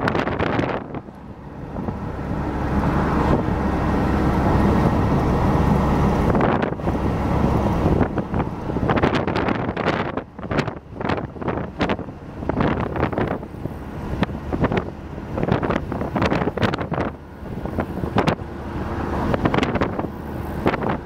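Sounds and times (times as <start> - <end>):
road and engine rumble: 0.0 - 21.0
wind buffeting microphone: 0.0 - 21.0.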